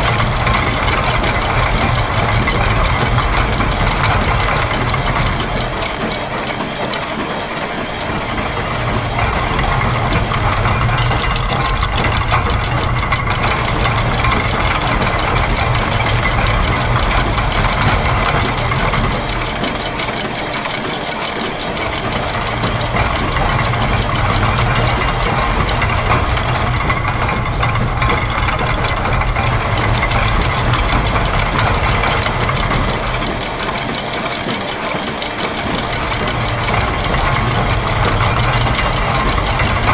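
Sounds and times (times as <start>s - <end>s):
low machine hum: 0.0s - 39.9s
mechanical clatter of factory machines: 0.0s - 39.9s
rapid fine ticking: 0.0s - 39.9s.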